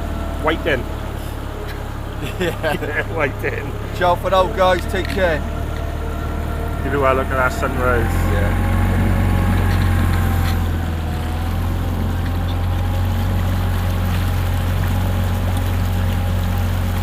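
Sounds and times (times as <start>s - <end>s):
outboard motor running: 0.0s - 17.0s
water rushing along hull: 0.0s - 17.0s.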